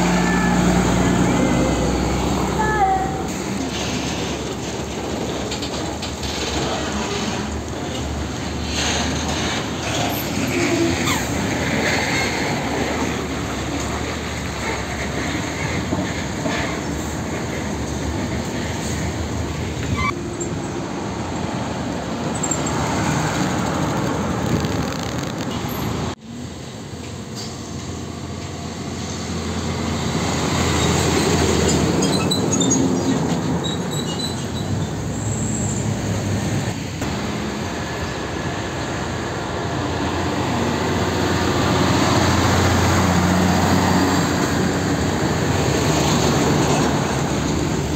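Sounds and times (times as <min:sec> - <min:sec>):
diesel trucks passing: 0:00.0 - 0:47.9
tyres on asphalt: 0:00.0 - 0:47.9.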